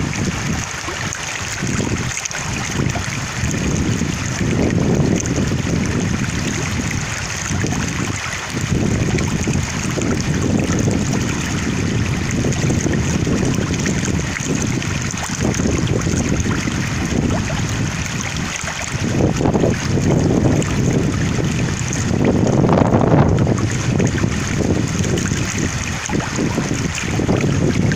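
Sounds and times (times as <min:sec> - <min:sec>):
flowing water: 0:00.0 - 0:27.9
wind gusting over microphone: 0:00.0 - 0:27.9.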